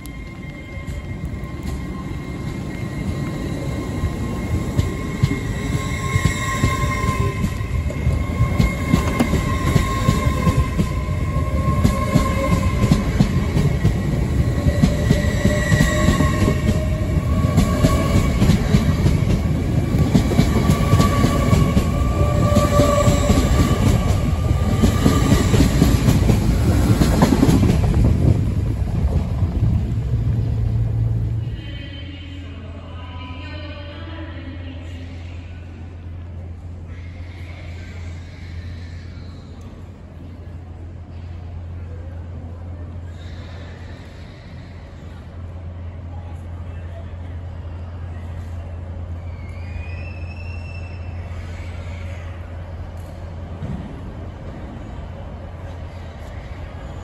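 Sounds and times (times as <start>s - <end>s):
electric train running past: 0.0s - 57.0s.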